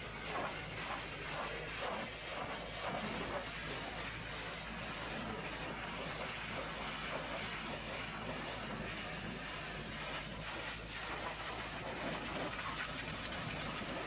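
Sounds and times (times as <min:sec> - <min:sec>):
pressure washer spraying water: 0:00.0 - 0:14.0.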